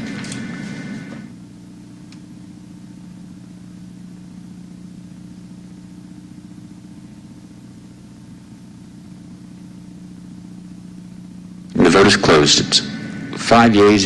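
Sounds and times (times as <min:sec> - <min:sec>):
low hum with faint hiss: 0:00.0 - 0:14.0.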